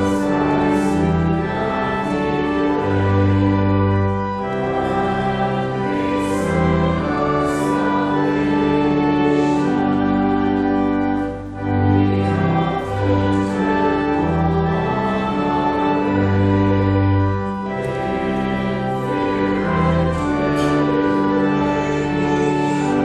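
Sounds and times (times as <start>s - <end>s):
group singing a hymn: 0.0s - 23.0s
instrumental accompaniment: 0.0s - 23.0s.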